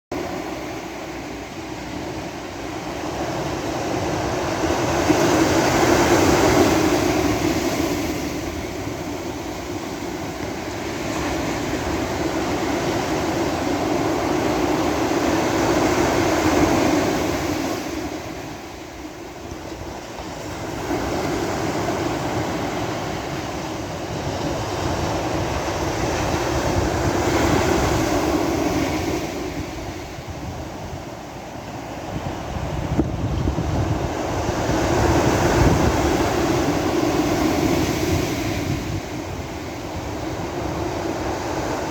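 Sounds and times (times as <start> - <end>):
waves breaking on beach: 0.1 - 41.9.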